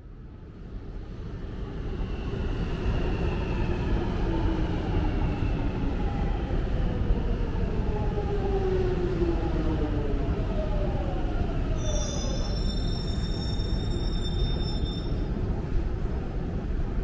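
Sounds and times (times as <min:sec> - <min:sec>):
underground train rumble: 0:00.0 - 0:17.0.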